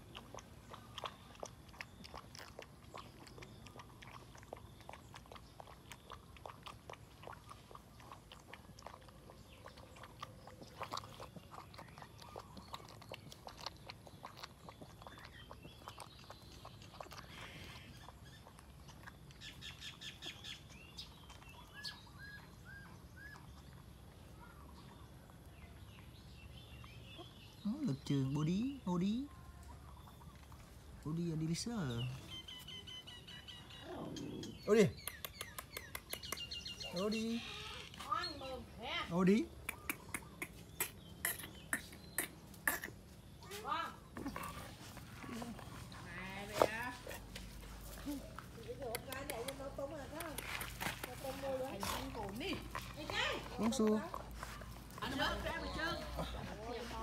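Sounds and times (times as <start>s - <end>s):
puppy eating from a bowl: 0.0s - 33.8s, 42.6s - 57.0s.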